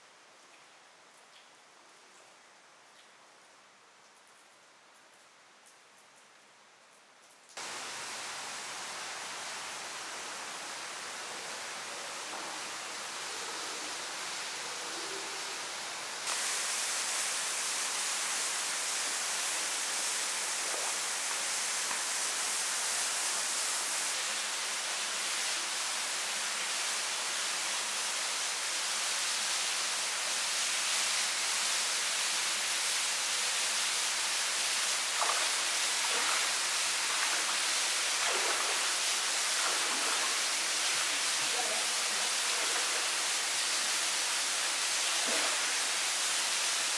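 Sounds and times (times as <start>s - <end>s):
running water hiss: 7.4s - 46.9s.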